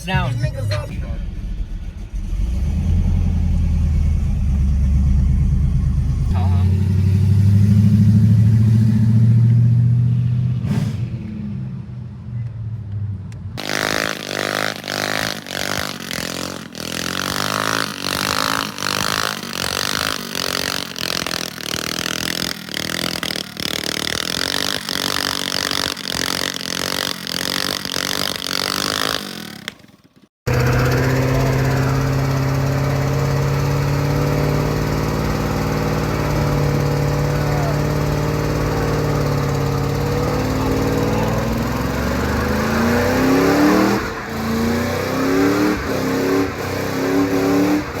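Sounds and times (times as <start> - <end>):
truck engines running loudly: 0.0 - 29.8, 30.5 - 48.0.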